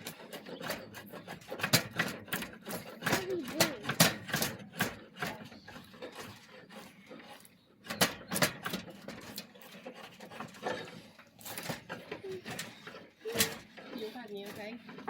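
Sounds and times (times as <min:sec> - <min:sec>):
hand tool rasping wood: 0:00.0 - 0:15.0.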